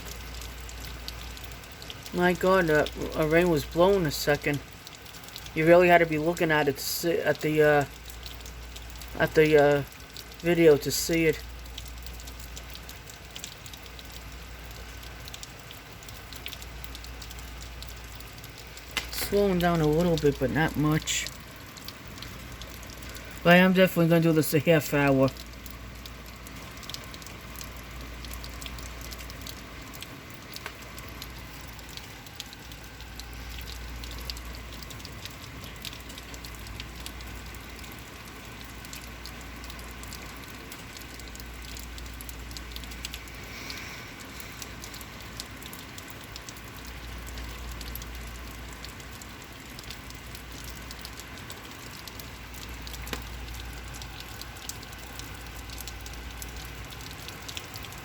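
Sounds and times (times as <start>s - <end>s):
heavy rain patter: 0.0s - 58.0s.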